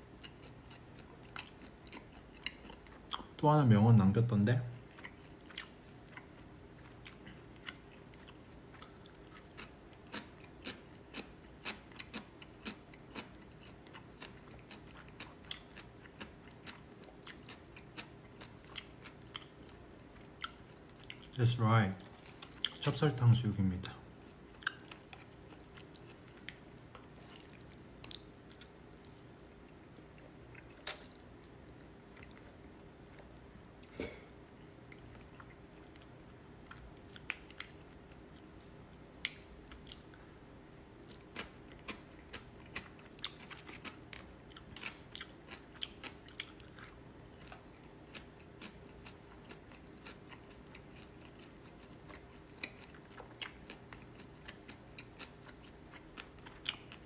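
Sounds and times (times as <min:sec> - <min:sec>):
chewing crispy food: 0:00.0 - 0:03.6, 0:04.5 - 0:57.0
faint steady hum: 0:00.0 - 0:57.0.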